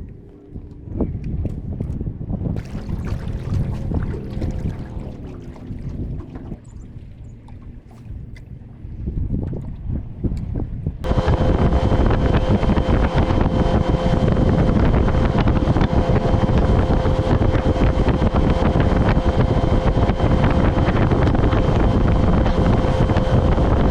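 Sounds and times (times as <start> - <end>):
boat motor running: 0.0 - 23.9
wind buffeting microphone: 0.0 - 23.9.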